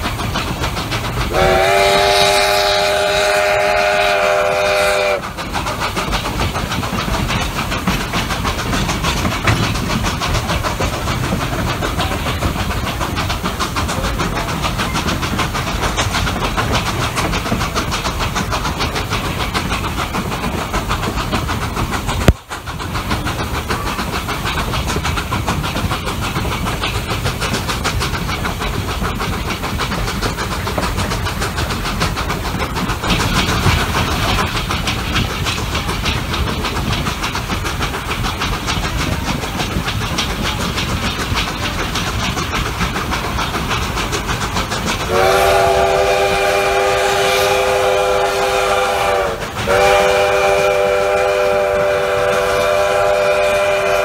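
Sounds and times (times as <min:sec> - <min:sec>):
steam locomotive working: 0:00.0 - 0:54.0
train wheels clacking on rails: 0:00.0 - 0:54.0.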